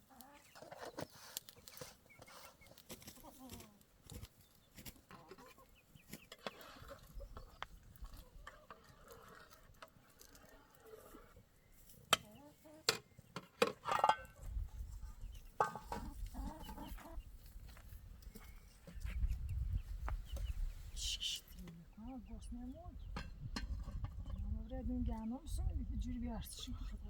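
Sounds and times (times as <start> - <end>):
chickens clucking: 0.0 - 25.8.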